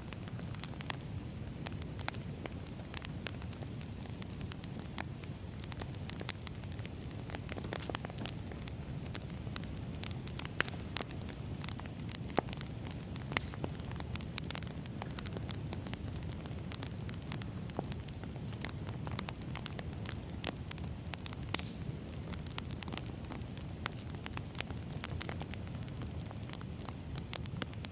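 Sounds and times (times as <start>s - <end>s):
fire rumbling: 0.0s - 27.9s
firewood popping: 0.0s - 27.9s.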